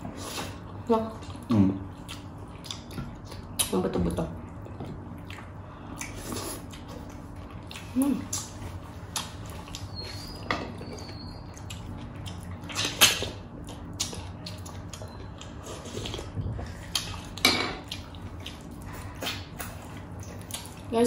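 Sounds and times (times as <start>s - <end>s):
wet chewing and lip smacks: 1.2s - 3.8s, 4.5s - 20.9s.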